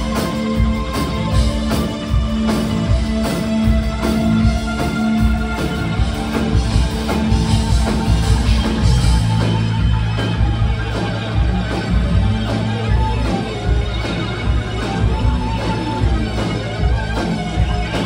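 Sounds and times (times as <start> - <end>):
bass guitar: 0.0 - 18.0
drum kit beat: 0.0 - 18.0
electric guitar: 0.0 - 18.0.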